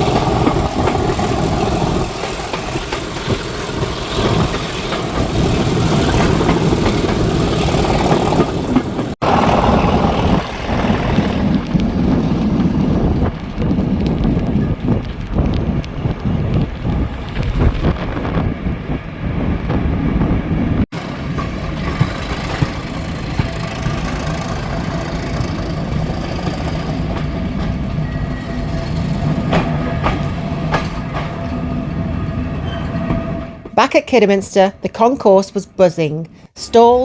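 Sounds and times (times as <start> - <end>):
diesel train running: 0.0 - 37.0.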